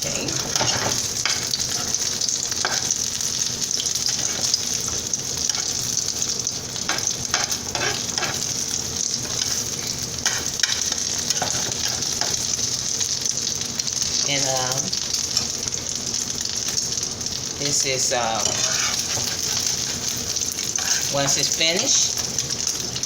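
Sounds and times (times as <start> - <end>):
omelet sizzling in oil: 0.0 - 23.0.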